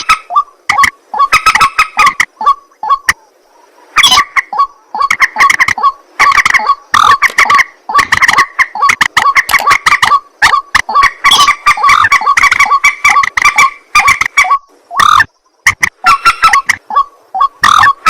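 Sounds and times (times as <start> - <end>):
bird harsh croaking calls: 0.0 - 18.0.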